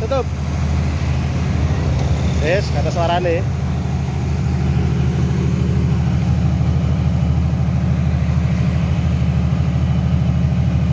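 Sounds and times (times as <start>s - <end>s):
diesel generator humming: 0.0s - 10.9s.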